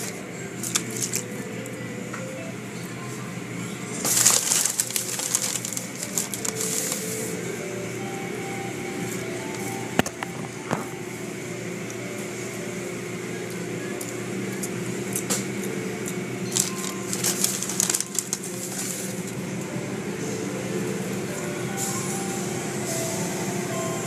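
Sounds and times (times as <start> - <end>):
car wash machinery humming: 0.0 - 24.0.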